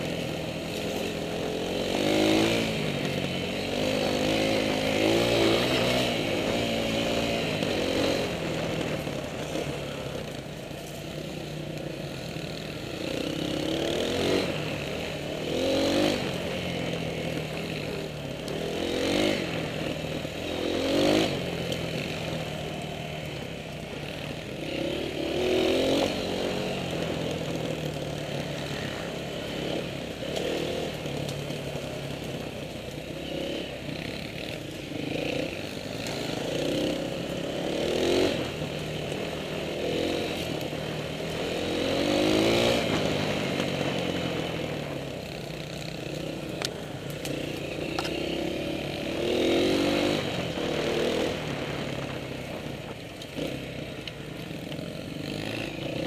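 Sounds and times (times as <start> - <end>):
dirt bike engine revving: 0.0 - 10.3, 12.0 - 32.5, 33.1 - 56.0.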